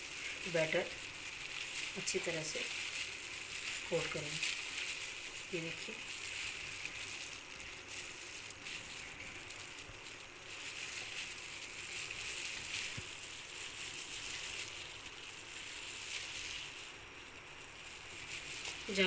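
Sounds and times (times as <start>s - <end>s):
flour rustling: 0.0s - 19.0s
plastic gloves crinkling: 0.0s - 19.0s.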